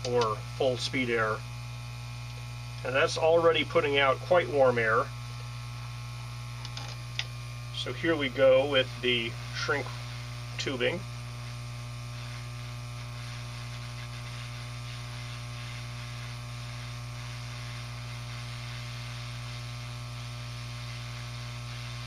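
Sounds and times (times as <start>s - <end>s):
hot air gun blower humming: 0.0s - 22.0s.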